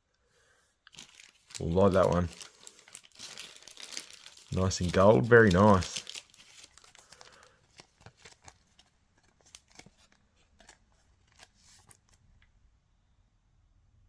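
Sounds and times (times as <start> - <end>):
trading cards clicking and rustling: 0.9 - 12.2.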